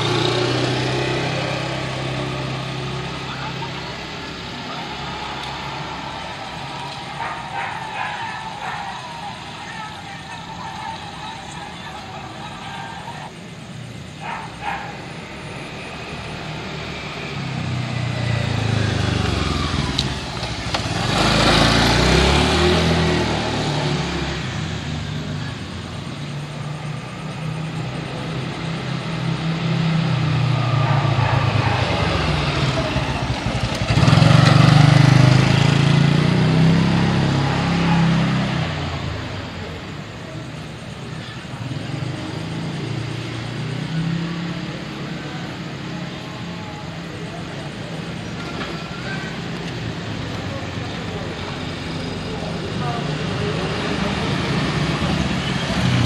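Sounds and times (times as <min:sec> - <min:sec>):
cars passing by: 0:00.0 - 0:56.0
motorcycles passing by: 0:00.0 - 0:56.0.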